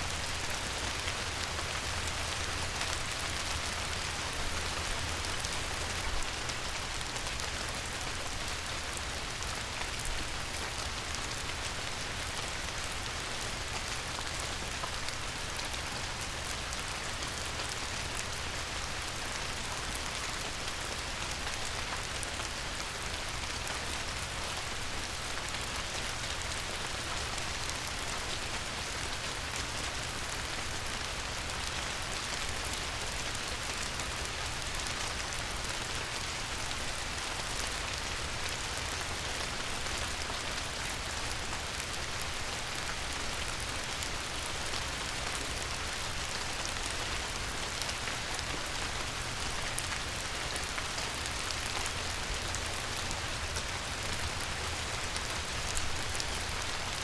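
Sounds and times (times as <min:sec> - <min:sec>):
rain hissing on river: 0:00.0 - 0:57.0.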